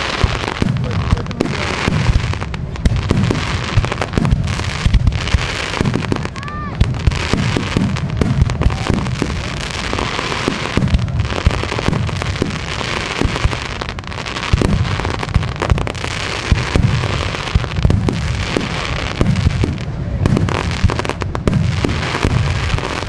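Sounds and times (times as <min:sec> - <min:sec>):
firework booms: 0:00.0 - 0:23.0
firework crackling and popping: 0:00.0 - 0:23.0.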